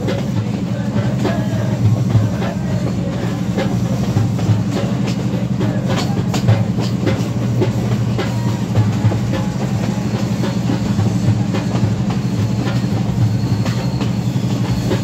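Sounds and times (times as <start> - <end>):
train low drone: 0.0 - 15.0.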